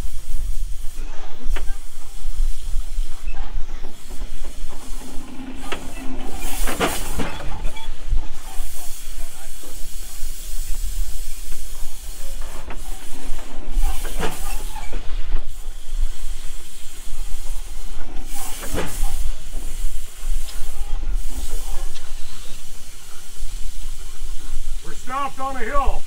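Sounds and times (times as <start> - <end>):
steam engine hissing: 0.0 - 26.0.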